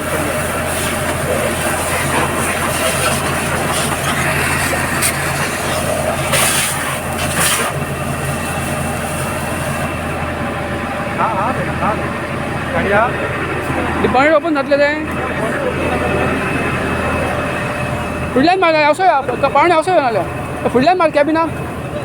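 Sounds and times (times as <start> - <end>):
engine and water pump running: 0.0 - 22.0.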